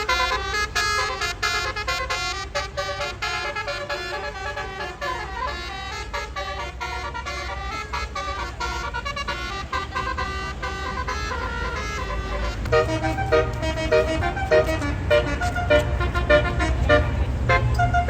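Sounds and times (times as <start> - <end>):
bus engine running low: 0.0 - 18.0
bus horn playing melody: 0.0 - 18.0.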